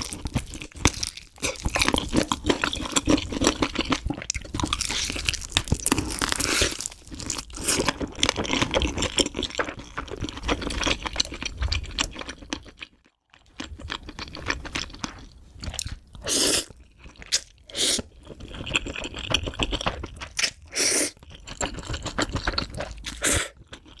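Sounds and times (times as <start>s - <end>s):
wet chewing and crunching: 0.0s - 24.0s.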